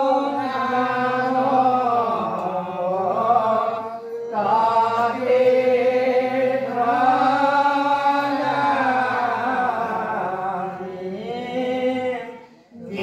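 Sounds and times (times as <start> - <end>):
group chanting: 0.0 - 13.0.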